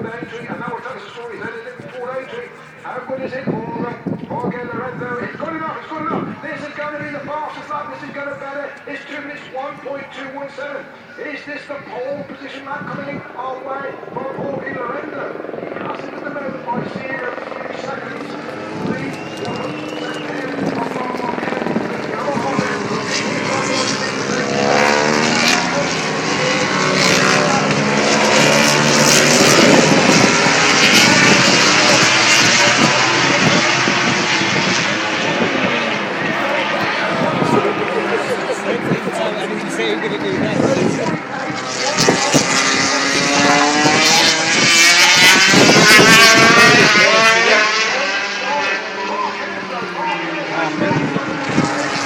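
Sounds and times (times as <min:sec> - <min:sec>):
track noise: 0:00.0 - 0:04.1, 0:04.8 - 0:52.0
racing motorcycle engines revving: 0:00.0 - 0:52.0.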